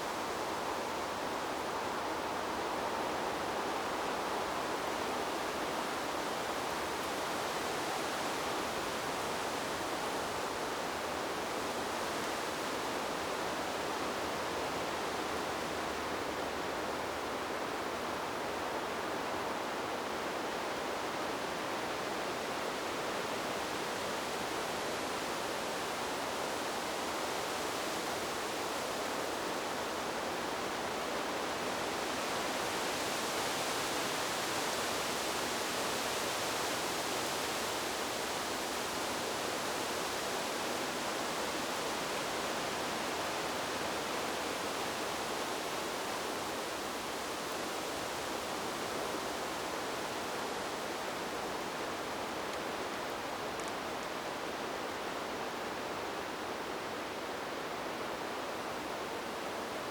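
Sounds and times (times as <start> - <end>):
wind blowing through trees: 0.0 - 59.9.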